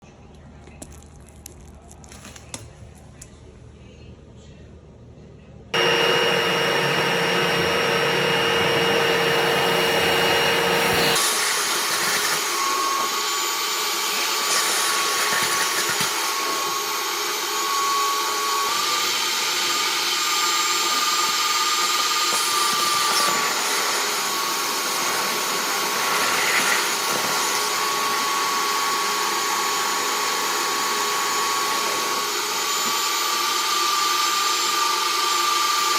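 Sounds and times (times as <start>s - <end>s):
vacuum motor whining: 5.8s - 35.9s.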